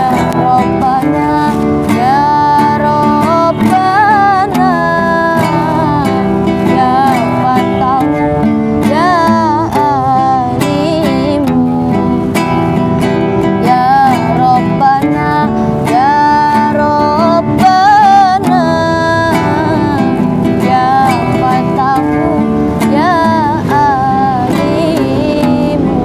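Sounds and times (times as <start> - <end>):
strummed acoustic guitar: 0.0 - 26.0
woman singing: 0.0 - 26.0.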